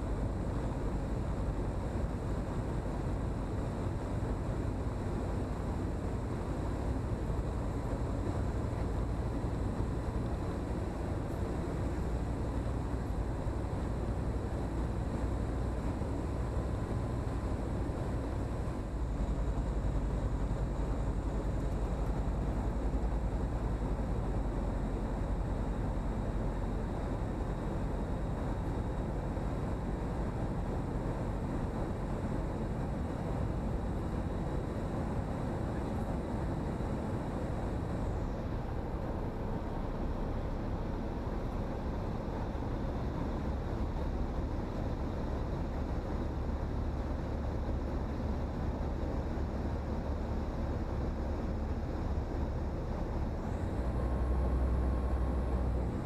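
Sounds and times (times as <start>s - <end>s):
light aircraft engine drone: 0.0s - 56.0s.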